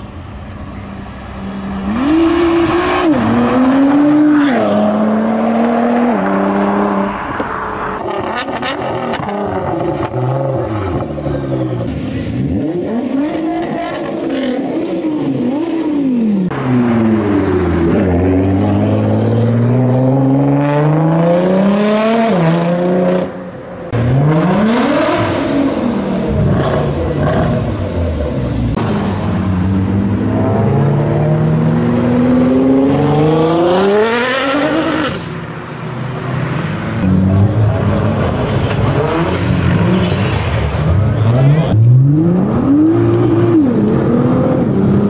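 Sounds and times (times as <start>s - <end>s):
car engine revving: 1.0s - 45.0s.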